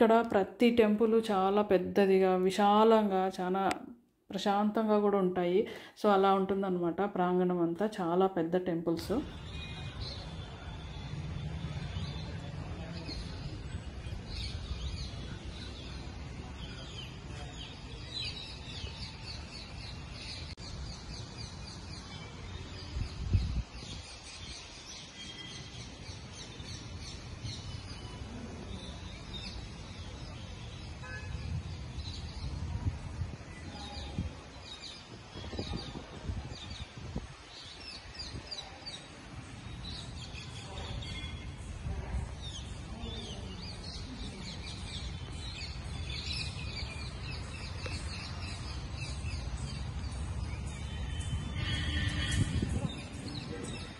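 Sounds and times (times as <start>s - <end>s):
small birds chirping: 9.0s - 53.9s.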